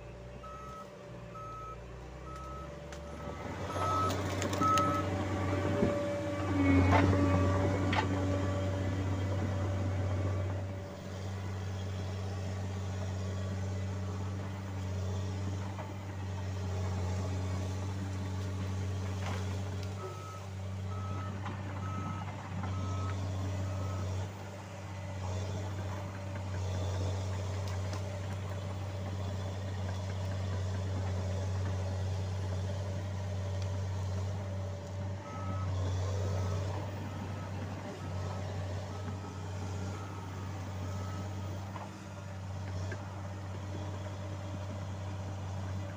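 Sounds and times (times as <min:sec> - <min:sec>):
dozer diesel engine running: 0:00.0 - 0:45.9.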